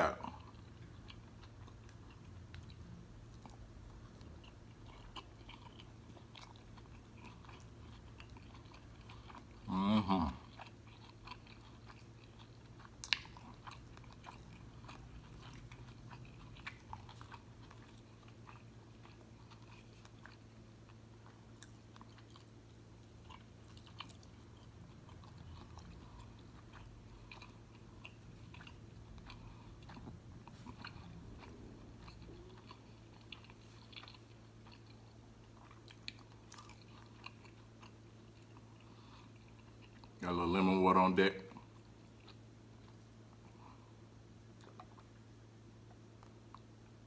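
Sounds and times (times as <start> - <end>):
close-miked chewing: 0.0 - 47.0
faint low hum: 0.0 - 47.0.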